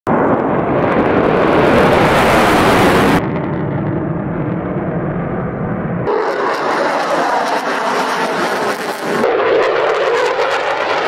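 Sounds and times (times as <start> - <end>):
fighter jets flying past: 0.1 - 11.0.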